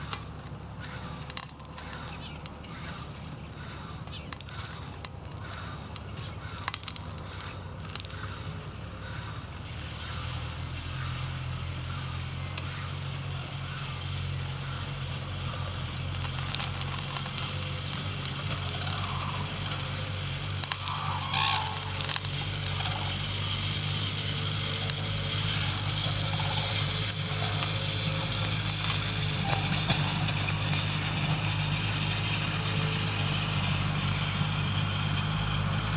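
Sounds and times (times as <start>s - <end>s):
clicks and crackles: 0.0s - 35.9s
vehicle engine humming: 0.0s - 35.9s.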